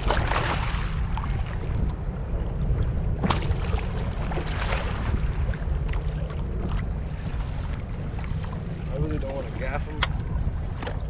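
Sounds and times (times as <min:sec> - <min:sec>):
water sloshing against kayak: 0:00.0 - 0:11.0
wind buffeting microphone: 0:00.0 - 0:11.0.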